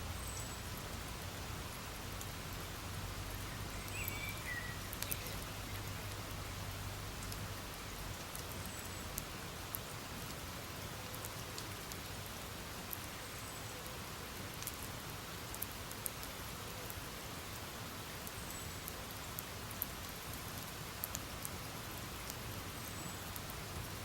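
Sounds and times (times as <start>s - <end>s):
burning wood crackling: 0.0s - 24.0s.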